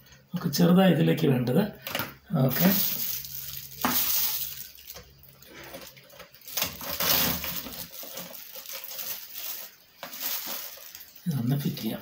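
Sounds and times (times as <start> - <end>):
plastic wrapping crinkling: 1.8 - 12.0.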